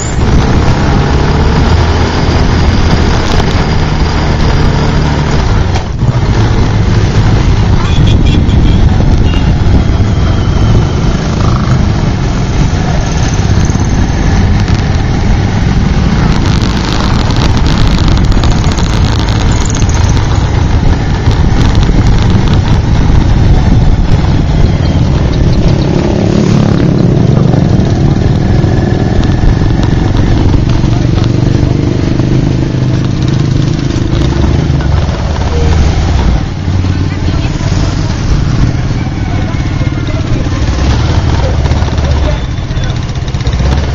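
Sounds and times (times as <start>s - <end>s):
motorbike engine running: 0.0s - 43.9s
road and wind noise: 0.0s - 43.9s.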